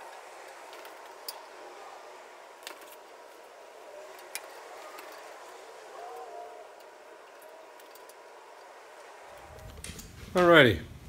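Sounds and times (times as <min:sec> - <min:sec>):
faint clicks of metal parts: 0:00.0 - 0:10.4
steady low hiss: 0:00.0 - 0:11.0.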